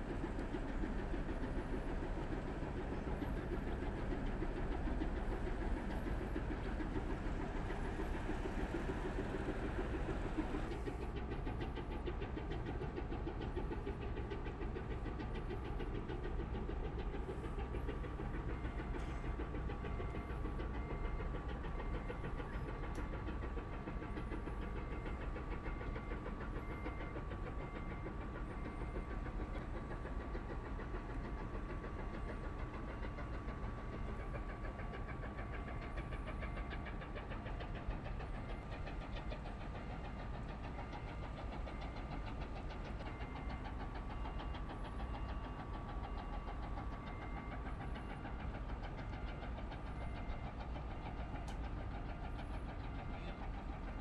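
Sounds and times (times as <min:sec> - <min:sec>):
diesel engine running: 0:00.0 - 0:54.0
steady engine hum: 0:00.0 - 0:54.0.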